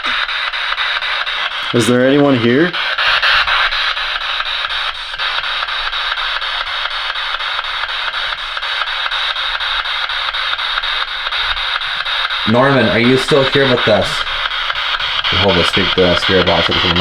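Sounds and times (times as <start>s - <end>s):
radio static pulsing: 0.0s - 17.0s.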